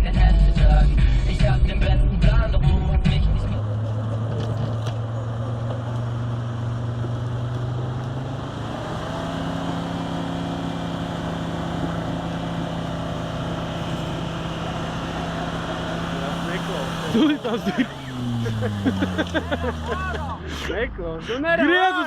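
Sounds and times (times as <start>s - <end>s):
car engine droning: 0.0s - 22.0s
road noise: 1.0s - 22.0s.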